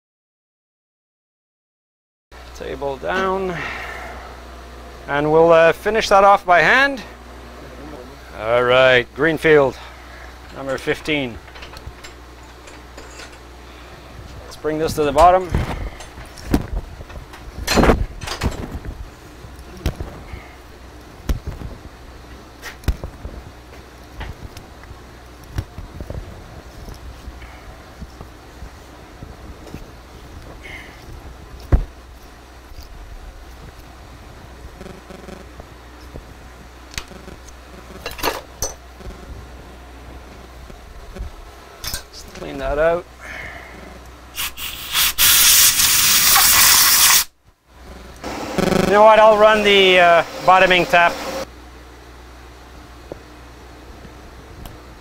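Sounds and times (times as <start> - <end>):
steady low hum: 2.4 - 44.6, 47.3 - 55.0.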